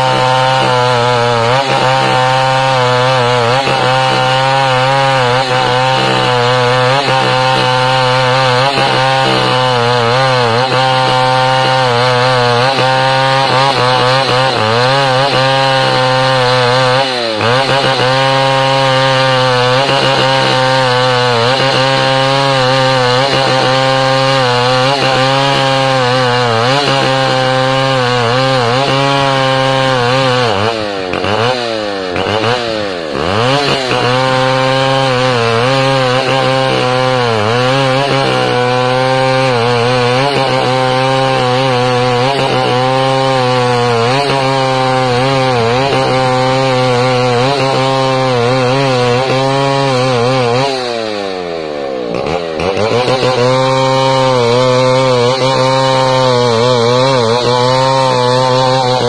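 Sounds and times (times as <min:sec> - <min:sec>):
chainsaw ripping timber: 0:00.0 - 0:59.0.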